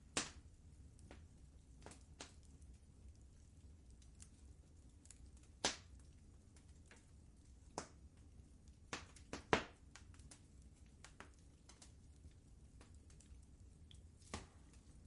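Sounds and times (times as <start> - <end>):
faint low rumble: 0.0 - 15.0
wood fire crackling: 0.0 - 15.0.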